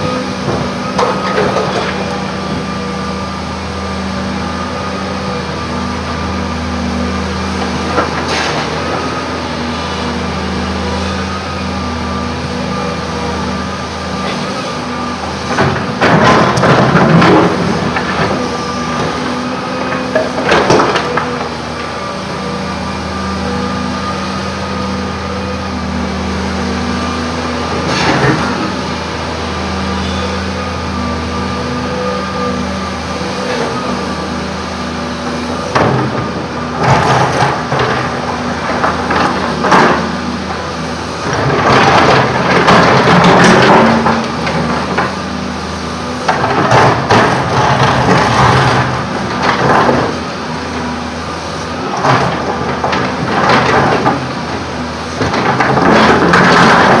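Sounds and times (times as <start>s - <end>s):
excavator running under load: 0.0s - 57.0s.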